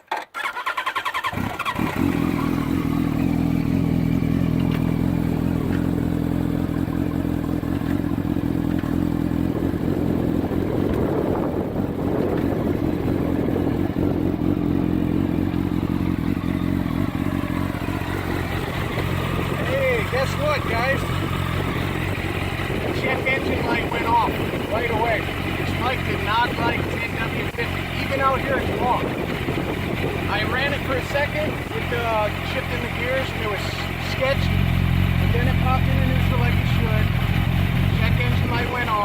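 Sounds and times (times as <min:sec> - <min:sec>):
motorcycle engine starting and idling: 0:00.0 - 0:39.0.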